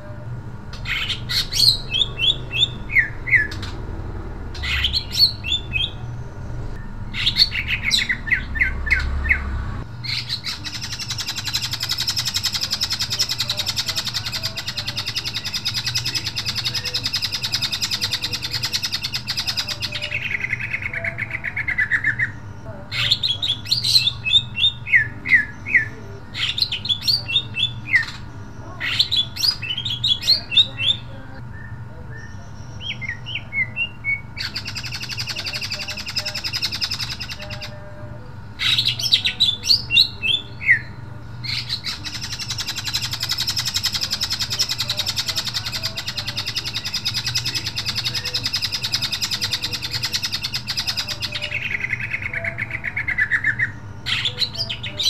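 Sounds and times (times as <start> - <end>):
bird buzzing chatter: 0.7 - 31.1, 32.7 - 37.9, 38.5 - 55.0.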